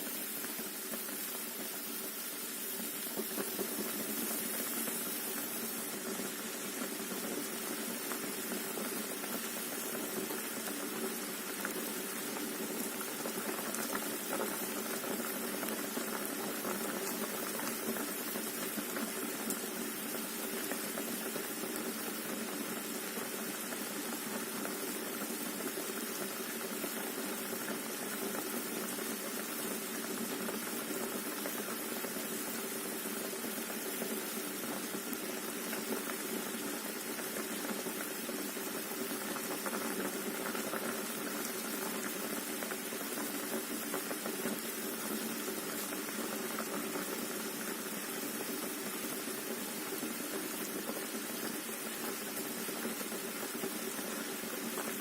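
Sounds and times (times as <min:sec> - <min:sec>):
pot of water boiling: 0:00.0 - 0:55.0.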